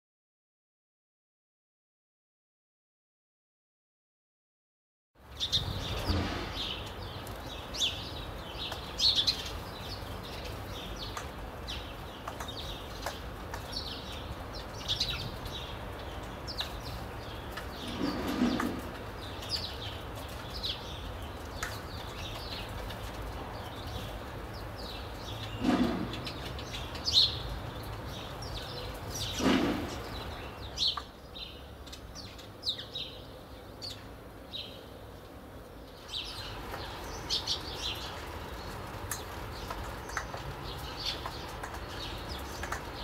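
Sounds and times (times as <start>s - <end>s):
sparrows chirping: 5.2s - 43.0s.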